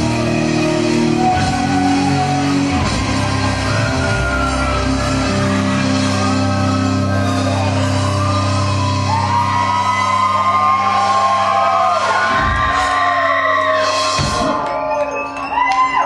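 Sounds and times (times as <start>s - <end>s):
live rock band playing: 0.0s - 13.0s
shouted wailing vocal: 1.4s - 14.3s.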